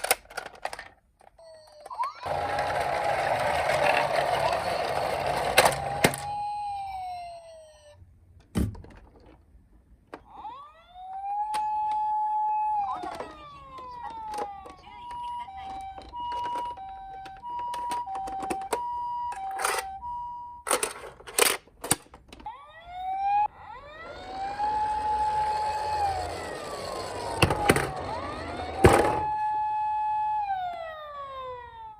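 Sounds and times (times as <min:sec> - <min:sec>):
toy electronic siren: 0:01.4 - 0:08.0, 0:10.3 - 0:20.8, 0:22.4 - 0:31.9.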